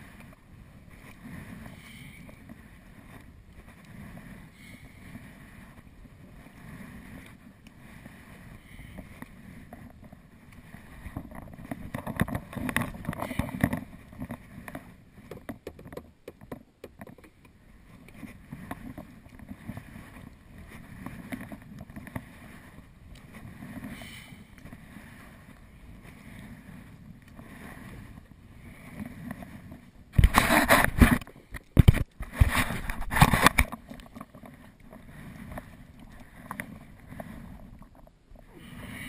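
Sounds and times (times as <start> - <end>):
water splashing around kayak: 0.0 - 39.0.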